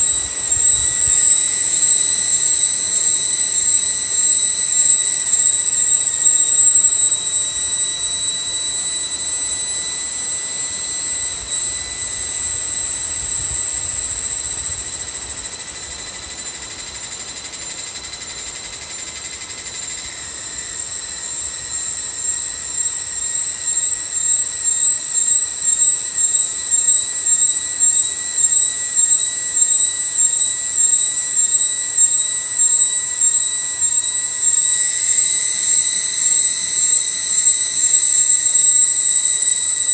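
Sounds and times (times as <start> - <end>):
forest insects droning: 0.0 - 39.9.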